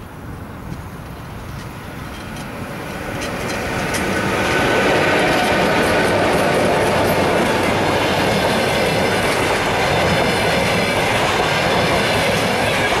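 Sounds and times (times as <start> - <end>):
train wheels running on rails: 0.0 - 13.0.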